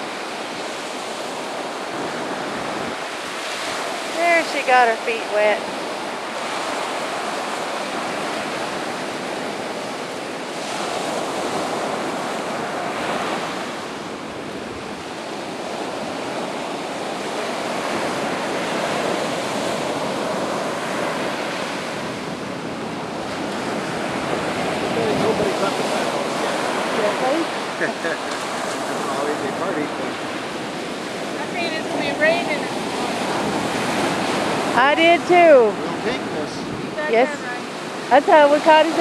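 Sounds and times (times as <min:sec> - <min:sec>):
surf washing up beach: 0:00.0 - 0:39.0.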